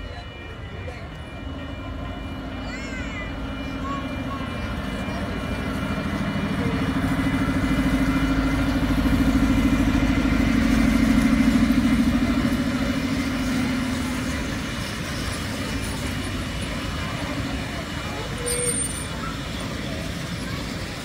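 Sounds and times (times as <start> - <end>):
miniature train engine drone: 0.0 - 21.0.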